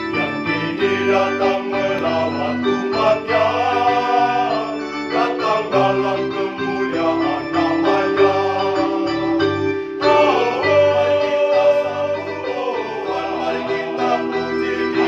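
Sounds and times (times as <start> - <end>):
mixed choir singing a hymn: 0.0 - 15.0.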